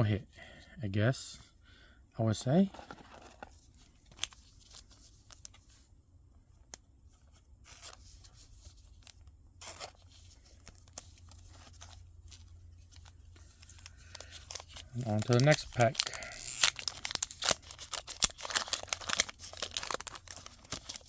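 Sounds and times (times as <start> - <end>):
cards and packaging rustling: 2.3 - 5.9, 6.6 - 21.0.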